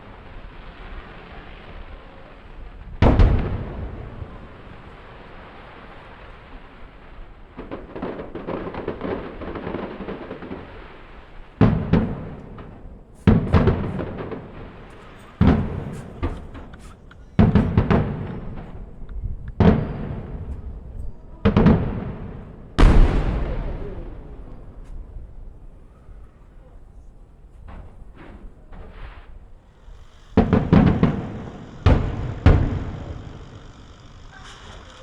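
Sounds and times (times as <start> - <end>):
fireworks booms with rumble: 0.0 - 35.0
fireworks crackling: 0.0 - 35.0.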